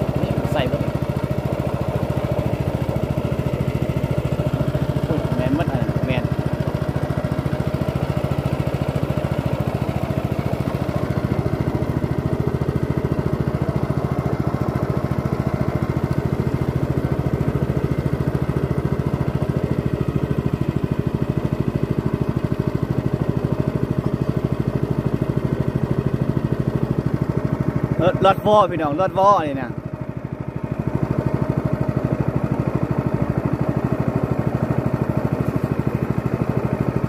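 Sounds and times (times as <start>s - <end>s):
small boat engine puttering: 0.0s - 37.0s.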